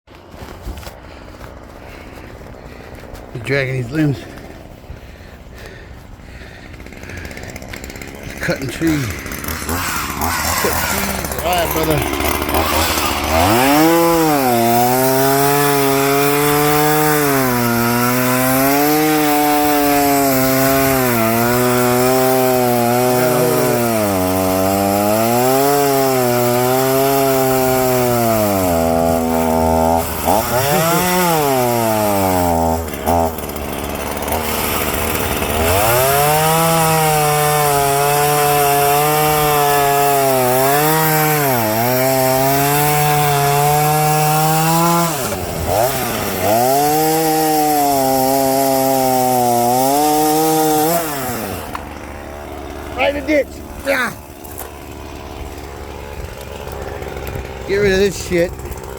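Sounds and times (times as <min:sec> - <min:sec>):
chainsaw cutting wood: 0:00.1 - 0:58.9.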